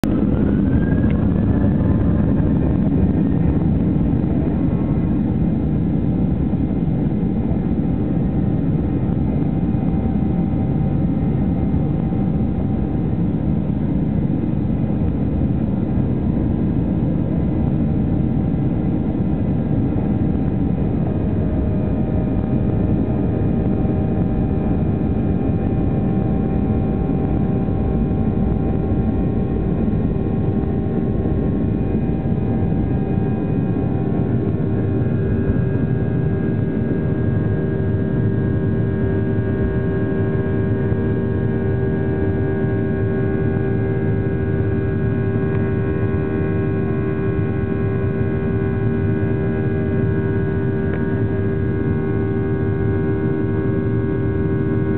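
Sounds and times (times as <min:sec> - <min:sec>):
faint steady whining tones: 0:00.0 - 0:54.9
jet engines rumbling: 0:00.0 - 0:54.9.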